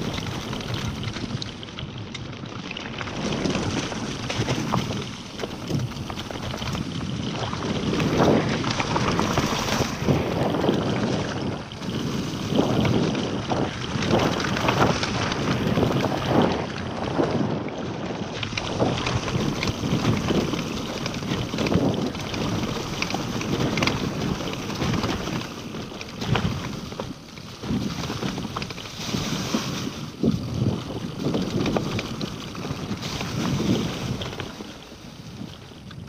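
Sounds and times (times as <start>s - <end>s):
bike rattling over bumps: 0.0s - 36.0s
wind over microphone: 0.0s - 36.0s.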